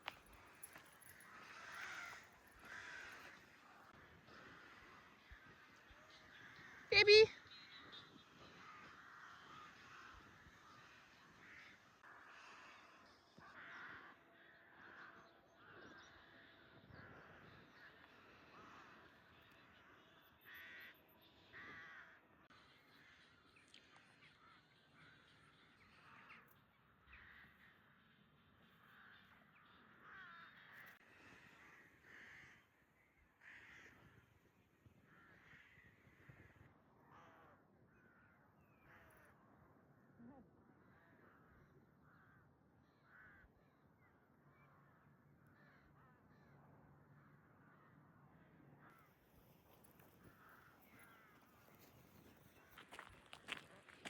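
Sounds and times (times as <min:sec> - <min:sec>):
harsh crow-like bird calls: 0:00.1 - 0:54.0.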